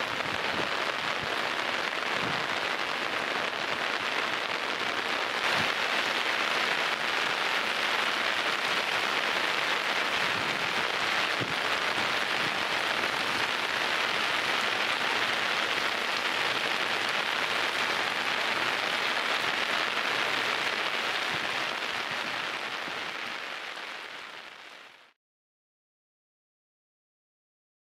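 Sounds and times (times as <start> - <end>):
torrential rain: 0.0 - 25.2.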